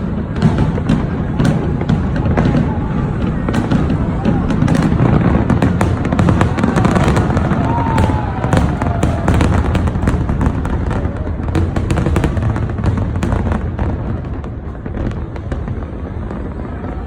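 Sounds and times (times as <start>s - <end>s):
fireworks crackling bangs: 0.0s - 17.0s.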